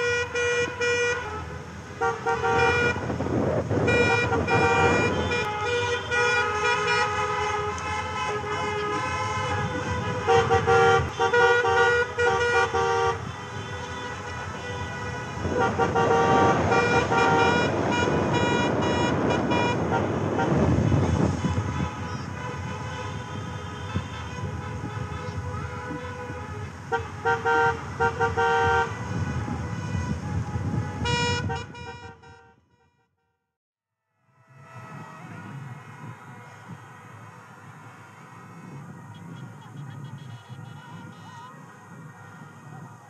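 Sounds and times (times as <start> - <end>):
car horns honking: 0.0 - 33.0, 38.2 - 41.4
road noise: 0.0 - 33.0, 34.1 - 43.0.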